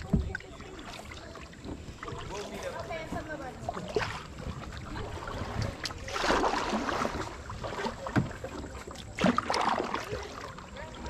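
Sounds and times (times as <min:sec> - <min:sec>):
paddle strokes splashing: 0:00.0 - 0:11.0.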